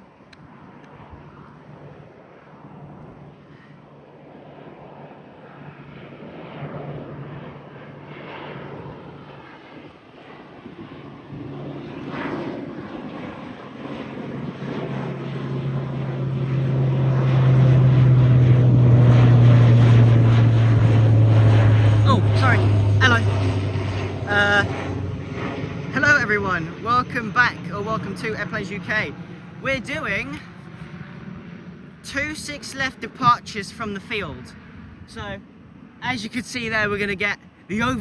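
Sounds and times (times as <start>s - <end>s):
jet airliner passing overhead: 0.0s - 38.0s.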